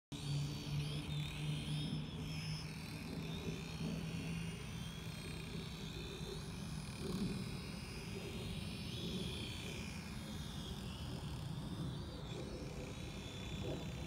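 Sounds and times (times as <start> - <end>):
quadcopter propellers whining: 0.1 - 14.0.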